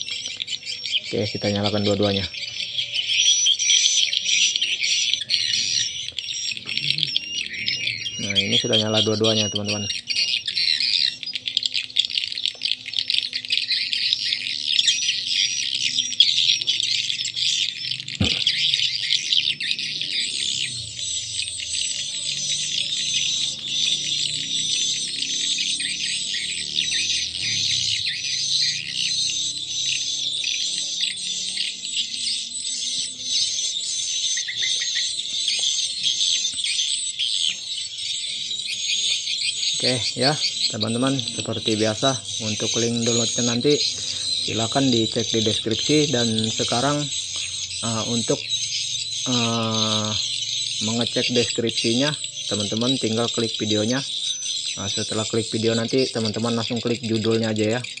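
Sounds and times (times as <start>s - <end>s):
recorded bird chirps and twitters: 0.0s - 58.0s.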